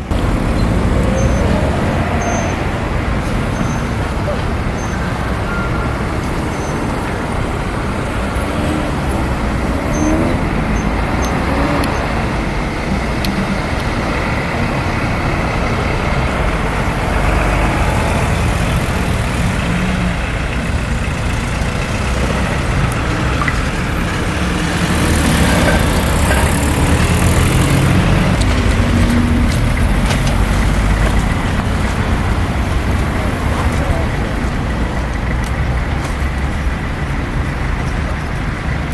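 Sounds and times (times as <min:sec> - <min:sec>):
loud vehicle passing close: 0:00.0 - 0:37.0
road traffic passing: 0:00.0 - 0:38.9.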